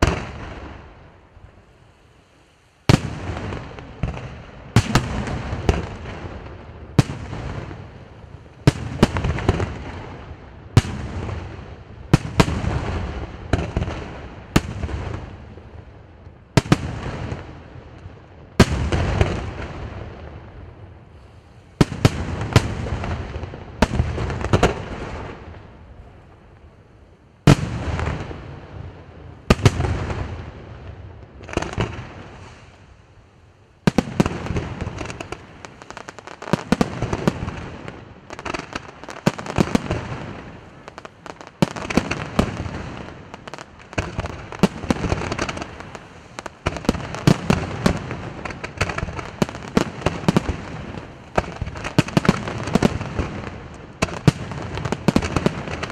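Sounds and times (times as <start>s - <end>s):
fireworks bursting: 0.0s - 26.7s, 27.4s - 33.0s, 33.8s - 55.9s.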